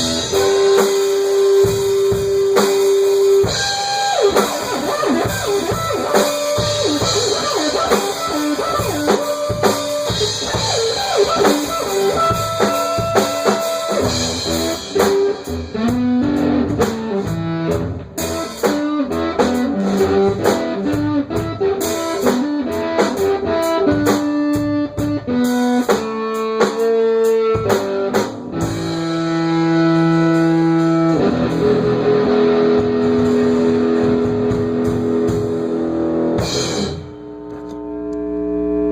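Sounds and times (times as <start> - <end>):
drum kit: 0.0 - 37.7
electric guitar: 0.0 - 38.9.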